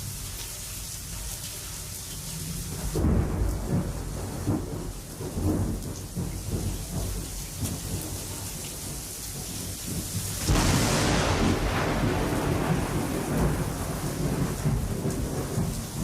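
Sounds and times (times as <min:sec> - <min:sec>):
falling rain: 0:00.0 - 0:16.0
thunder rumbling: 0:02.6 - 0:16.0.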